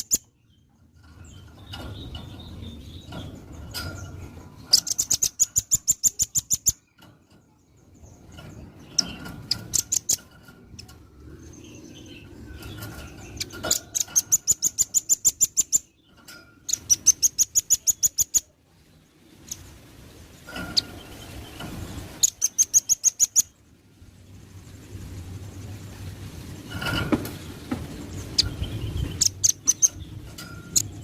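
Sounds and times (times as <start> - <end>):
bird singing rapid trills: 0.0 - 31.0.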